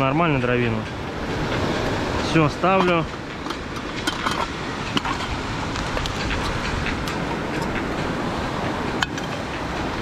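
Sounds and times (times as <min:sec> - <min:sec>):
campfire crackling: 0:01.1 - 0:10.0.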